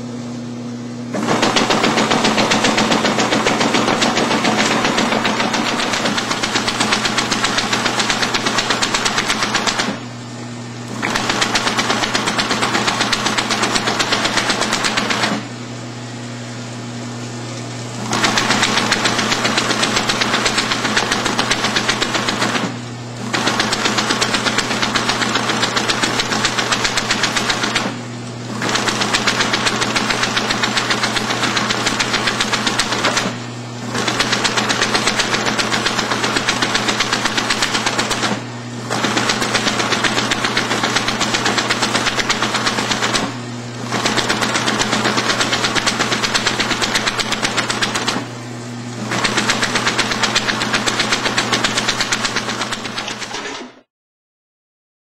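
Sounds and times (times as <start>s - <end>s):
motor hum: 0.0s - 53.8s.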